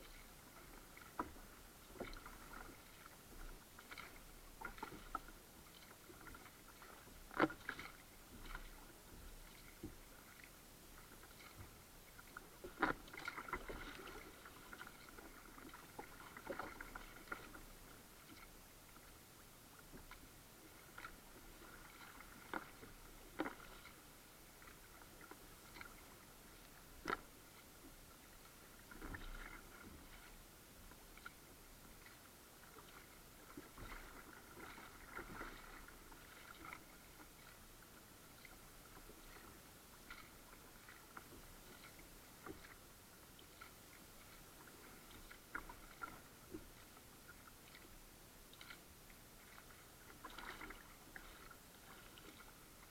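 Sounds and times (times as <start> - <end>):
paddle splashes: 0.0 - 52.9.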